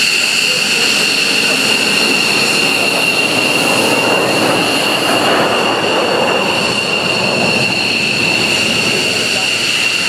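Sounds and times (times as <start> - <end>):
jet engine whine: 0.0 - 10.0.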